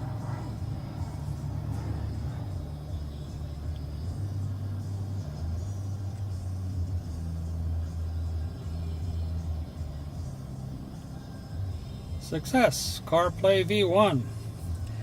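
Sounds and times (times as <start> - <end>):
car cabin rumble and hum: 0.0 - 15.0.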